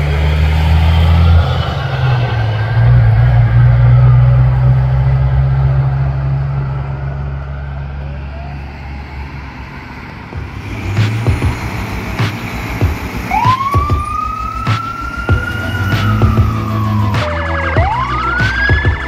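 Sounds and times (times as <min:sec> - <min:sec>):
engine and traffic rumble: 0:00.0 - 0:19.0.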